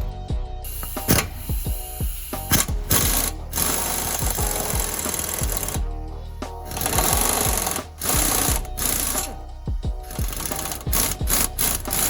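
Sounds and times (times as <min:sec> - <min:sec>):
background music with low beat: 0:00.0 - 0:12.0
exhaust air hissing: 0:00.6 - 0:12.0
air impact wrench hammering: 0:00.7 - 0:05.9, 0:06.6 - 0:12.0.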